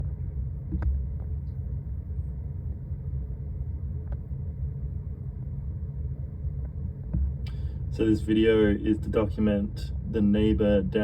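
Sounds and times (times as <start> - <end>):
rumble of air through wall: 0.0 - 11.0.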